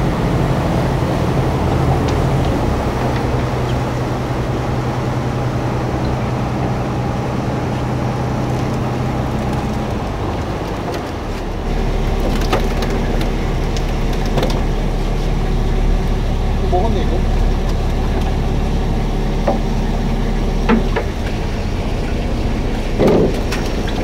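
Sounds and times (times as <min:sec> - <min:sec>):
boat engine running: 0:00.0 - 0:24.0
water churning: 0:00.0 - 0:24.0.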